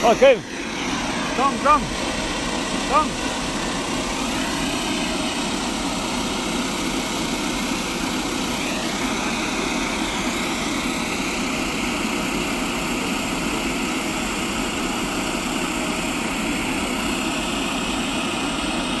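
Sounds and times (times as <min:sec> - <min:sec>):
turboprop engines droning: 0:00.0 - 0:19.0.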